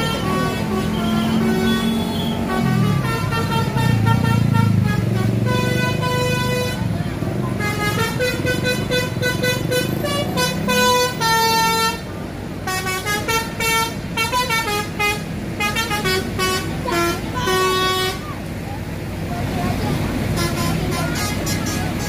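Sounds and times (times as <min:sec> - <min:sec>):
musical bus horn tune: 0:00.0 - 0:18.4, 0:20.3 - 0:22.0
low engine rumble: 0:00.0 - 0:22.0.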